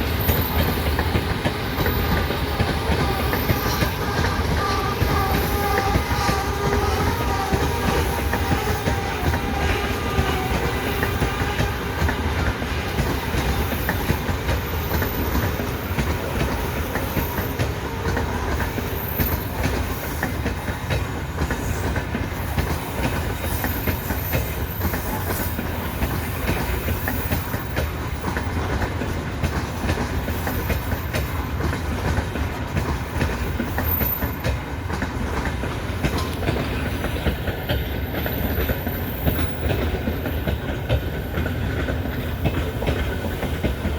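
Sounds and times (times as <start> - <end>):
train wheels clattering: 0.0 - 43.9.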